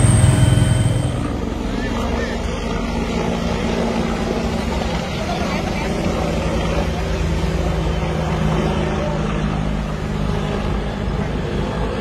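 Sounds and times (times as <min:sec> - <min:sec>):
steady engine drone: 0:00.0 - 0:12.0.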